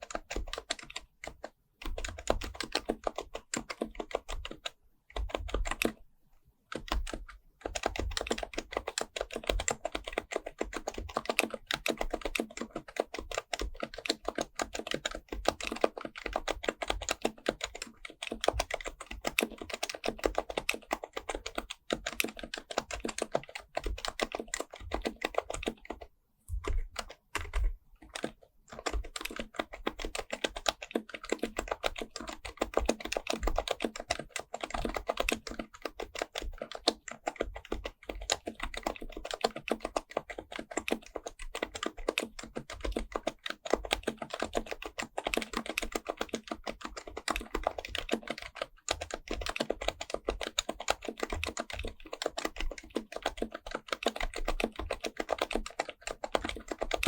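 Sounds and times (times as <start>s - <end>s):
fast keyboard typing: 0.0s - 6.0s, 6.7s - 57.0s.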